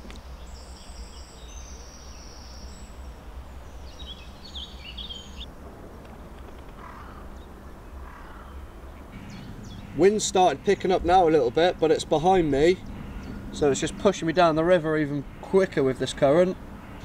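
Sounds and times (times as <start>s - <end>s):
small birds singing: 0.0s - 17.0s.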